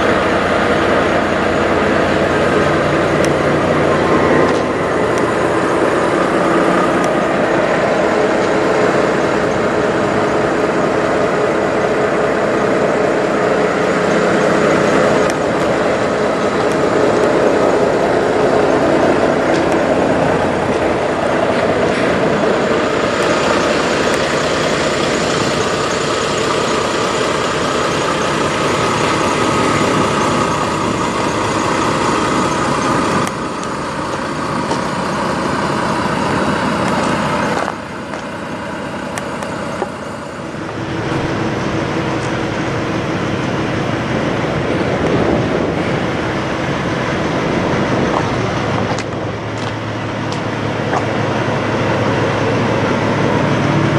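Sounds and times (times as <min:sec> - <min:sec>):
truck diesel engines droning: 0:00.0 - 0:53.9.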